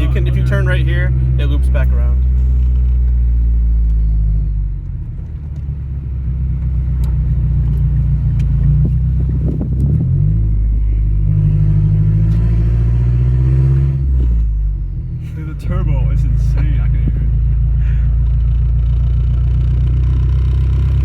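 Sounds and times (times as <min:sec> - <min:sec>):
car engine running loud: 0:00.0 - 0:21.0.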